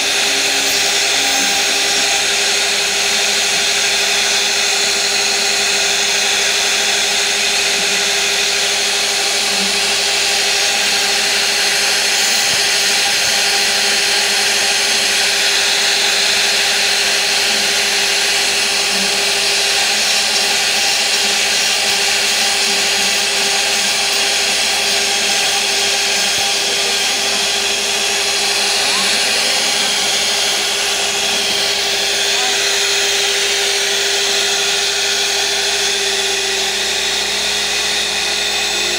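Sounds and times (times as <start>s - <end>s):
cutter bit hissing in wood: 0.0s - 5.5s, 7.8s - 38.9s
router spindle motor hum: 0.0s - 38.9s.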